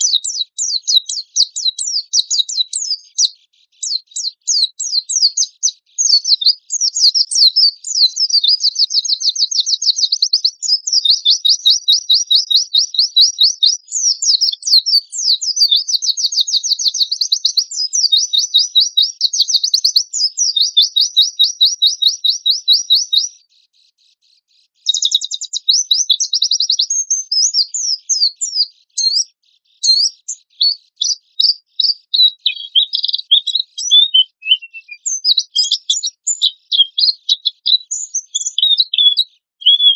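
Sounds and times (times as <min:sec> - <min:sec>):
bird singing rapid high trills: 0:00.0 - 0:23.3, 0:24.8 - 0:39.9
bird chirps: 0:00.0 - 0:39.9.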